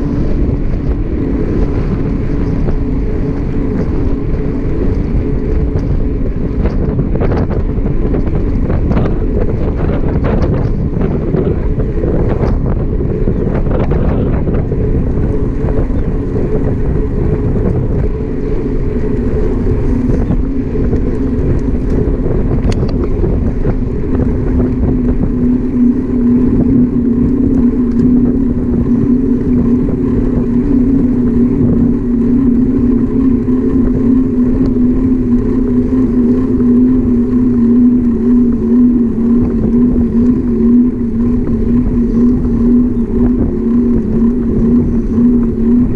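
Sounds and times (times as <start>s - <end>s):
steady tyre hum: 0.0s - 45.9s
wind rushing over microphone: 0.0s - 45.9s.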